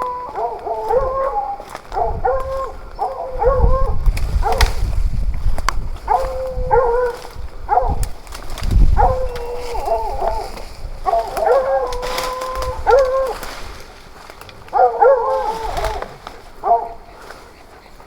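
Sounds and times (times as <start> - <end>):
hunting dogs baying: 0.0 - 18.0.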